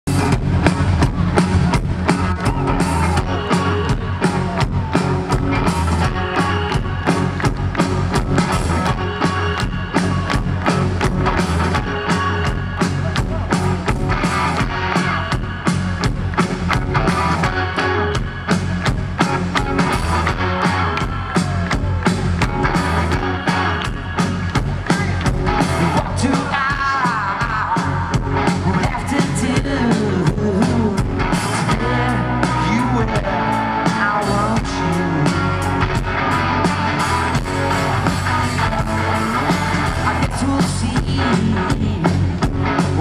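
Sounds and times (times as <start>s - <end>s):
rock band playing through pa: 0.0s - 43.0s.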